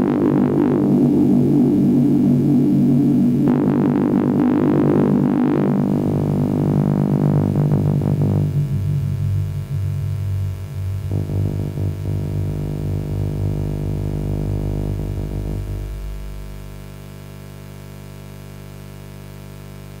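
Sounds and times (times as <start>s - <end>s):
low synthesizer drone: 0.0s - 17.2s
low mains hum: 0.0s - 20.0s.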